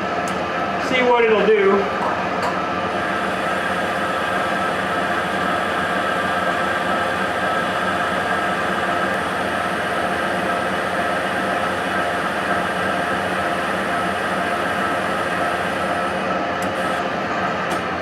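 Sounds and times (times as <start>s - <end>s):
lathe gear whine: 0.0s - 18.0s.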